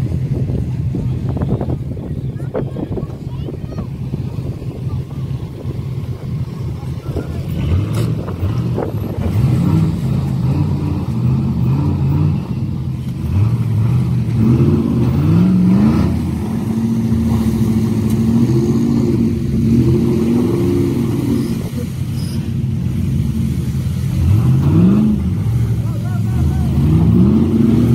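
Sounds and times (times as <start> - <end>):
truck engines revving: 0.0 - 27.9.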